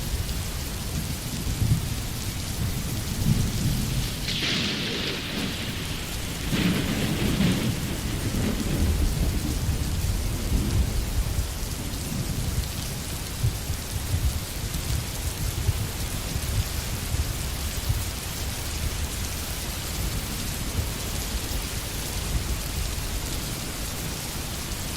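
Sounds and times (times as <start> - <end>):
rain falling in forest: 0.0 - 24.9.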